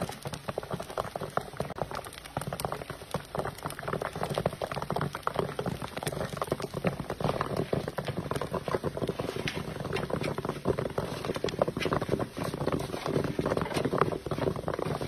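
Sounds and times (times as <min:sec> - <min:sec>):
popcorn popping: 0:00.0 - 0:15.0
steady sizzle: 0:00.0 - 0:15.0.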